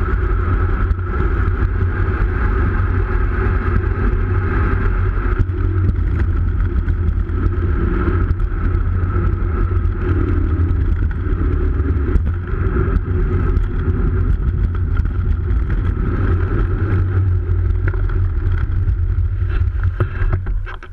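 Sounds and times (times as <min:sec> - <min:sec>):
road rumble: 0:00.0 - 0:20.9
wind buffeting: 0:00.0 - 0:20.9.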